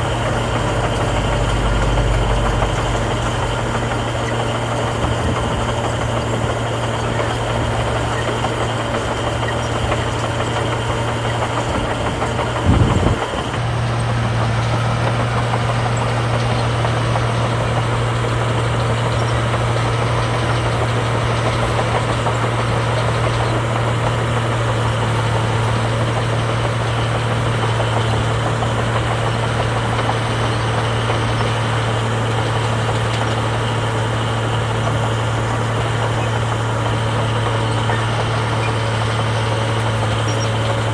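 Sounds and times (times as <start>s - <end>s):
heavy diesel engine humming: 0.0s - 40.9s.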